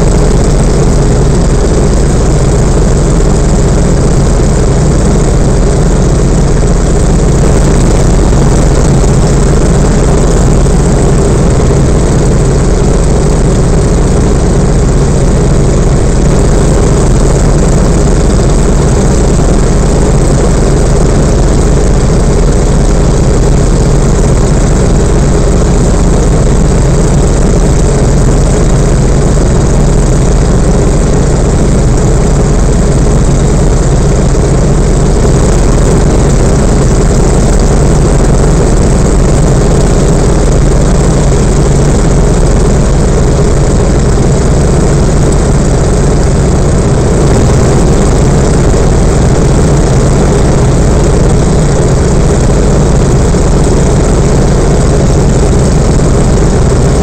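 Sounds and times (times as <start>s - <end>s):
aircraft radial engine and propeller: 0.0s - 57.0s.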